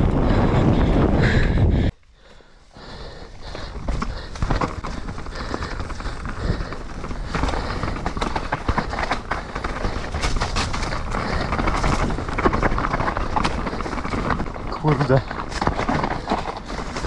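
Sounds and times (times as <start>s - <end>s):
bike tyres rolling on trail: 0.0s - 17.0s
bike knocking and rattling: 2.0s - 17.0s.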